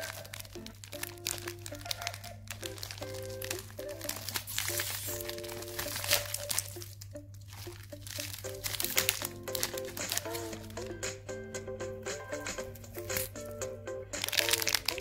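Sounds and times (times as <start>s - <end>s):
plastic wrapper crinkling and tearing: 0.0s - 10.9s, 12.9s - 13.4s, 14.2s - 15.0s
background music with bright melody: 0.0s - 15.0s.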